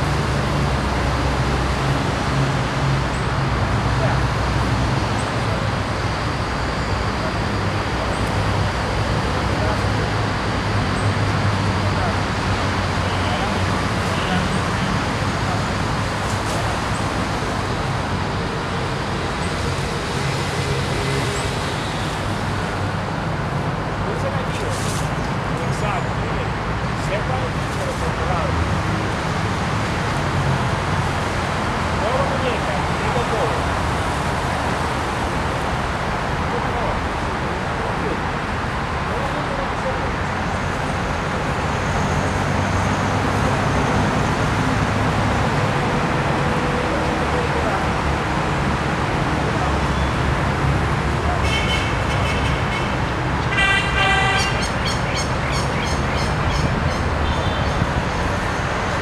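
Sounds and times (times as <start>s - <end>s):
road traffic rushing: 0.0s - 59.0s.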